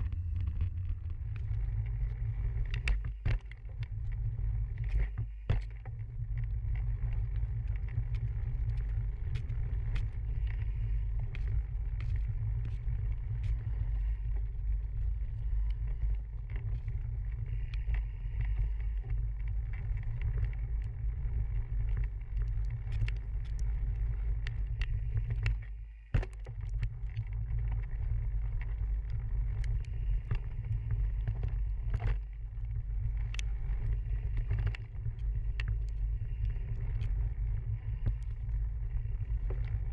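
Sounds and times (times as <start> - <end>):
bike clicking and rattling: 0.0 - 39.9
low wind noise: 0.0 - 39.9.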